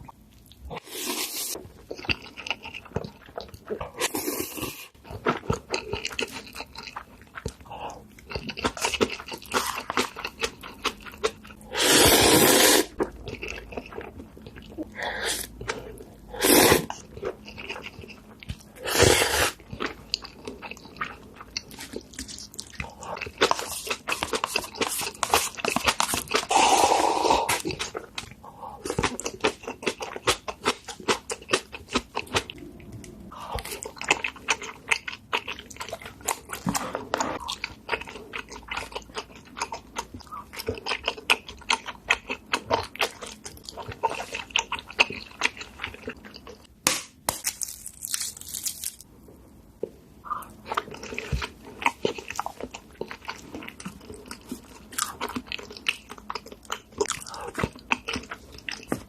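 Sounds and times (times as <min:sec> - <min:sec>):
crunching and chewing: 0:01.5 - 0:11.7, 0:12.9 - 0:46.7, 0:47.3 - 0:49.1, 0:50.3 - 0:59.0.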